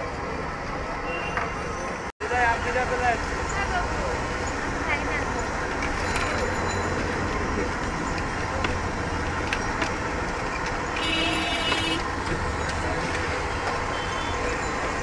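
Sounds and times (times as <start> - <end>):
traffic din: 0.0 - 15.0.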